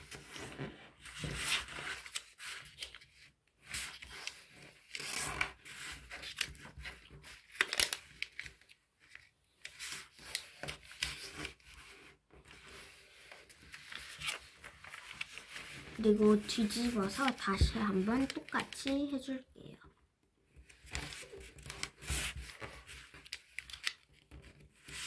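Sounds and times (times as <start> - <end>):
paper rustling and crinkling: 0.0 - 19.3, 20.5 - 25.0.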